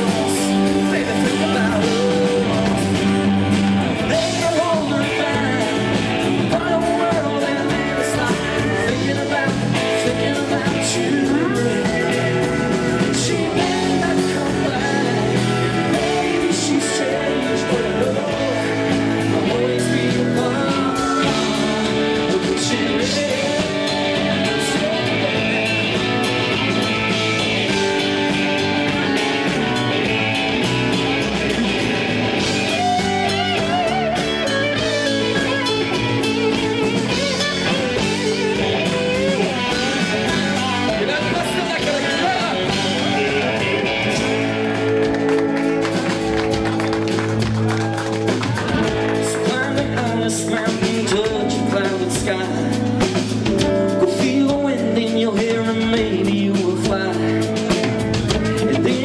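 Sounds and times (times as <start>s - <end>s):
country rock band playing live: 0.0s - 59.0s
lead electric guitar bends: 0.0s - 59.0s.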